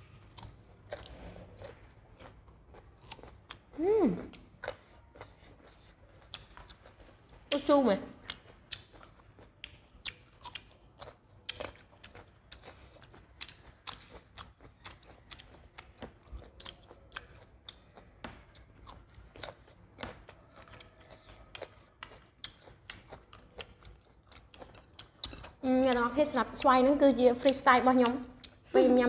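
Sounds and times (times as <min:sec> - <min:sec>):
chewing and biting mango: 0:00.0 - 0:26.2.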